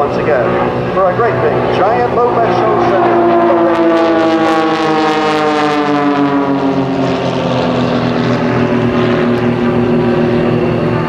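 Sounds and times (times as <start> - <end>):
propeller plane engines buzzing: 0.0 - 11.0.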